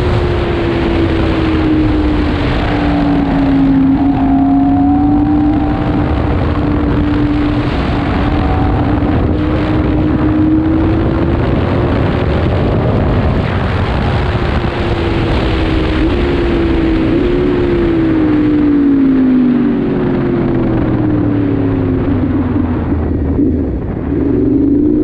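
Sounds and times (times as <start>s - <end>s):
motorcycle engine: 0.0s - 25.0s
wind rush: 0.0s - 25.0s.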